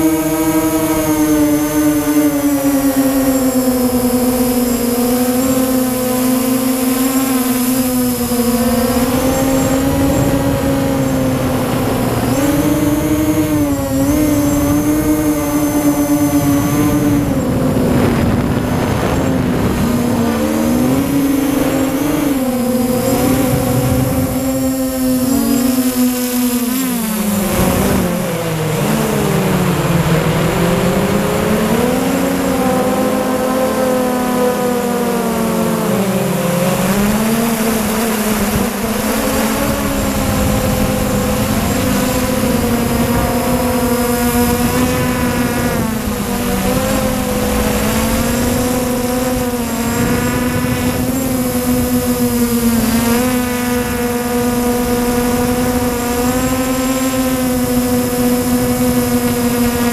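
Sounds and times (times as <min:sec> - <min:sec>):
drone motors whining: 0:00.0 - 0:59.9
wind hiss: 0:00.0 - 0:59.9.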